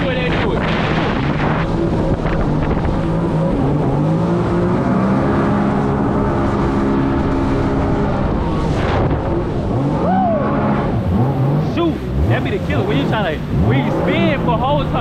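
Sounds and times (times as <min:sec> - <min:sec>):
jet ski engine running: 0:00.0 - 0:15.0
steady rushing noise: 0:00.0 - 0:15.0.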